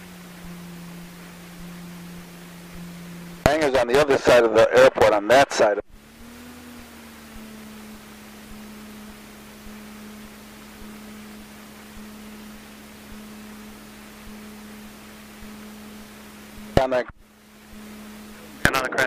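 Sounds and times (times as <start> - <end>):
steady low hum with hiss: 0.0 - 19.0.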